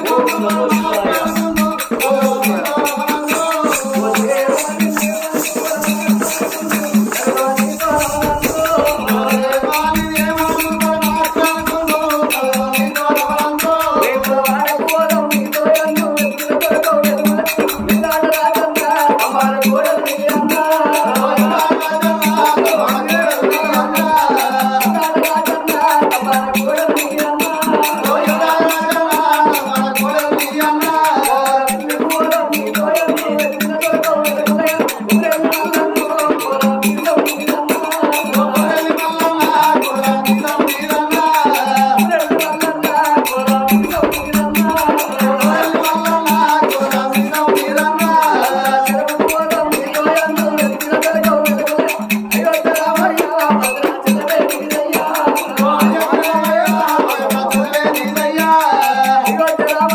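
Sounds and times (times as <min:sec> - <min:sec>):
fast rattling jingle: 0:00.0 - 0:59.9
hand drum beating: 0:00.0 - 0:59.9
voices singing: 0:00.0 - 0:59.9.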